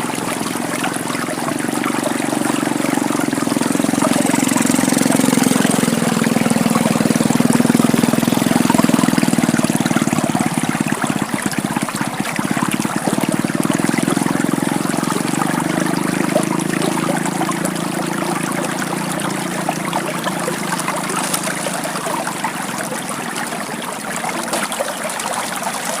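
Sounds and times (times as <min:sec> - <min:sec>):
low hum: 0:00.0 - 0:24.6
water trickling over stones: 0:00.0 - 0:26.0.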